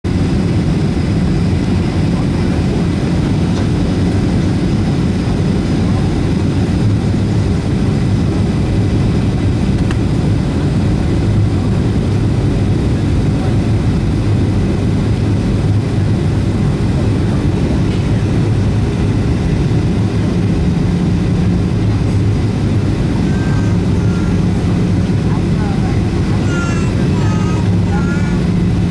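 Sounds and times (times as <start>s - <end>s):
jet engine drone in cabin: 0.1s - 28.9s.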